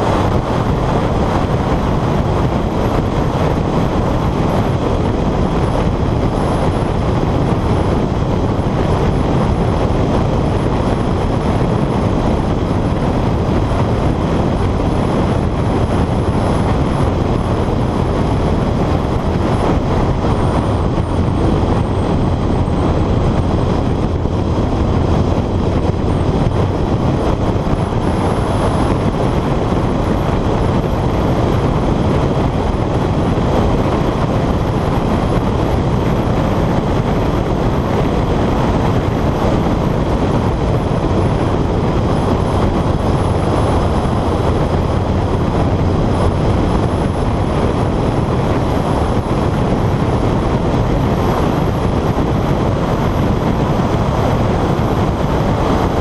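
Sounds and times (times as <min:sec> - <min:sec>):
car engine running hard: 0:00.0 - 0:56.0
wind rush: 0:00.0 - 0:56.0.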